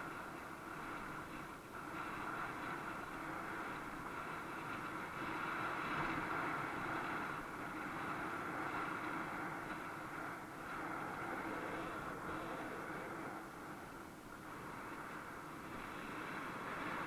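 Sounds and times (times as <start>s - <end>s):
bike tyre and wind noise: 0.0s - 17.0s.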